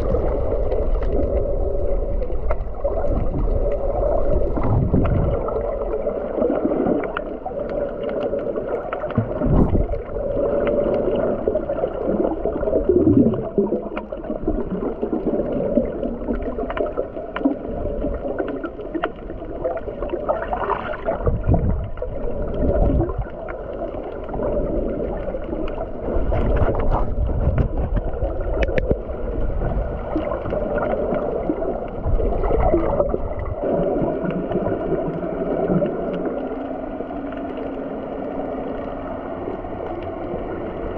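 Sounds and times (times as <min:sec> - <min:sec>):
muffled underwater rush: 0:00.0 - 0:40.9.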